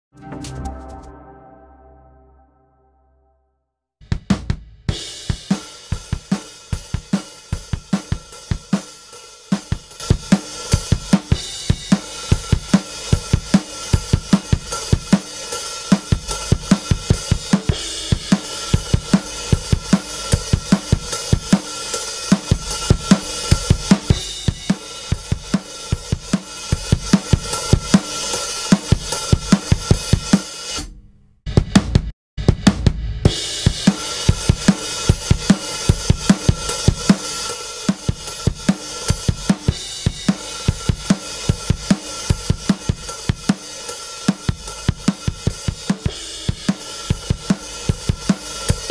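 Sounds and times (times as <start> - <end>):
drum kit groove: 4.0 - 48.9.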